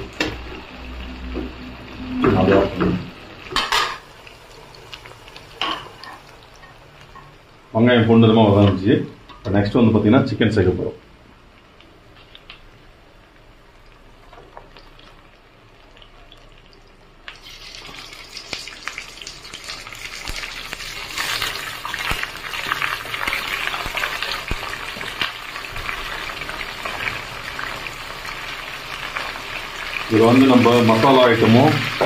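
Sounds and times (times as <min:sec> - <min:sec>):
food sizzling in oil: 0:00.0 - 0:07.7, 0:11.4 - 0:32.0.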